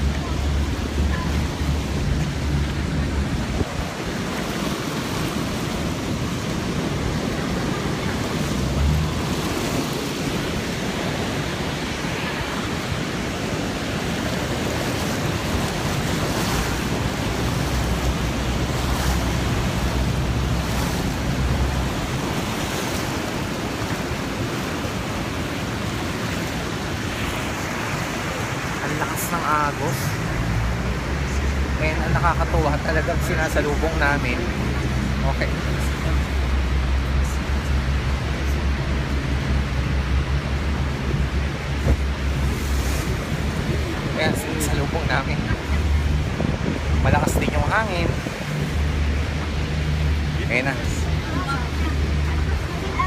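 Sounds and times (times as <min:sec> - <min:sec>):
turbulent river water: 0:00.0 - 0:53.0
waterfall roaring: 0:00.0 - 0:53.0
wind gusts on microphone: 0:00.0 - 0:53.0.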